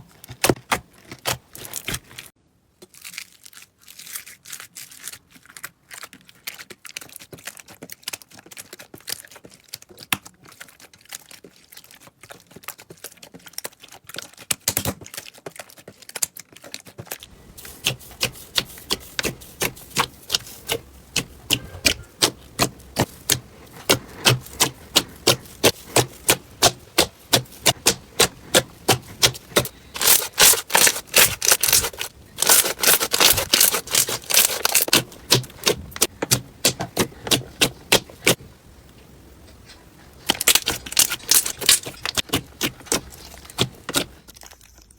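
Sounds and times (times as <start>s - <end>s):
slime clicking and crackling: 0.0s - 38.4s, 40.2s - 44.9s.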